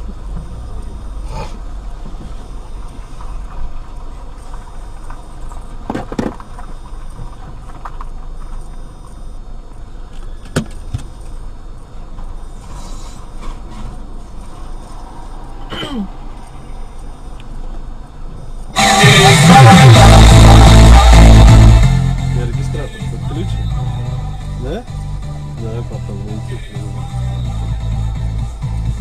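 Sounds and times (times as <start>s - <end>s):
car cabin rumble: 0.0s - 26.9s.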